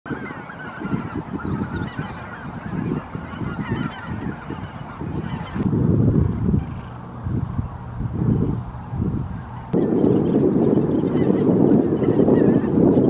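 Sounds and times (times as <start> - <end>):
geese honking: 0.1 - 7.1, 8.7 - 13.0
low uneven rumble: 0.2 - 13.0.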